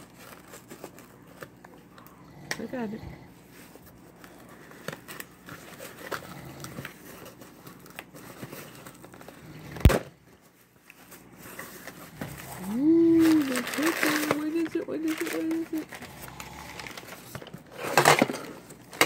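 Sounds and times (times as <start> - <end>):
packing paper rustling: 0.0 - 2.1, 3.4 - 19.0.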